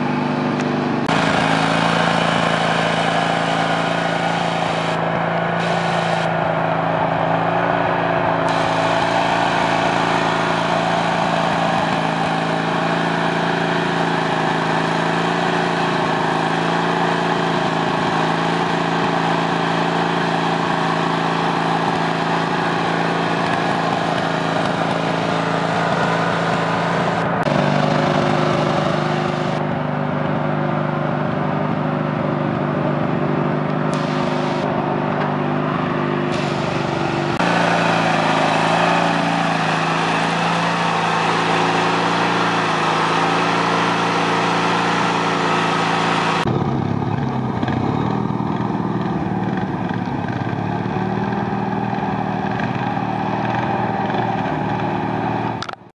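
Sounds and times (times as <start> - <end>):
riding lawn mower engine: 0.0 - 55.9.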